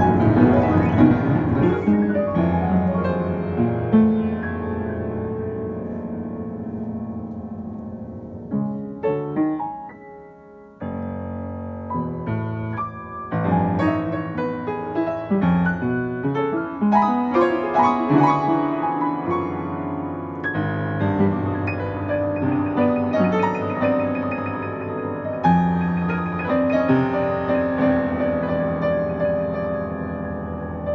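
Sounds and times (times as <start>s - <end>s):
piano playing modernist music: 0.0s - 30.9s.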